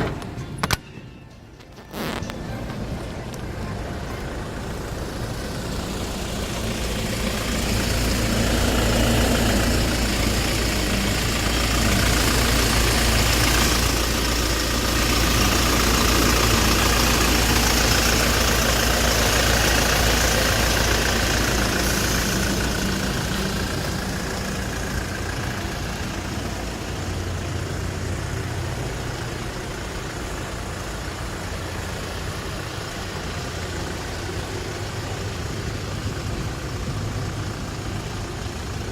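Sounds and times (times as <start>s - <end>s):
truck engine humming: 0.0s - 38.9s.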